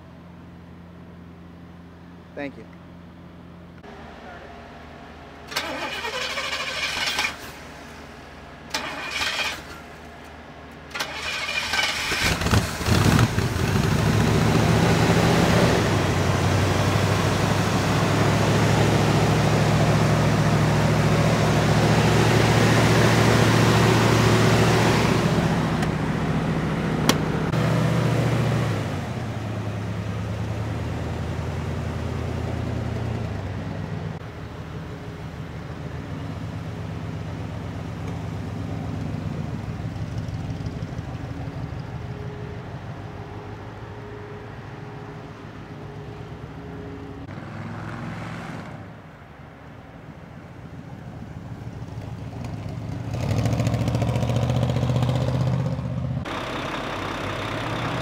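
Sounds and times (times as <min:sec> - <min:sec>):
car engine idling: 0:00.0 - 0:47.3, 0:55.9 - 0:58.0.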